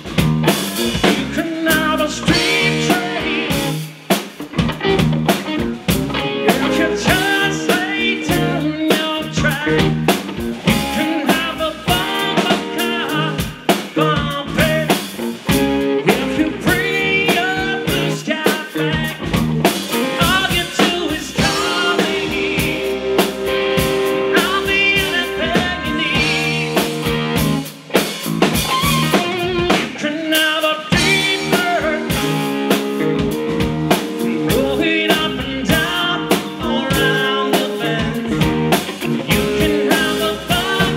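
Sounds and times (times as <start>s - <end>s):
drum kit: 0.0s - 40.9s
electric bass: 0.0s - 40.9s
electric guitar: 0.0s - 40.9s
man singing: 0.9s - 3.9s, 6.3s - 15.1s, 15.9s - 27.2s, 29.6s - 33.3s, 33.9s - 40.9s.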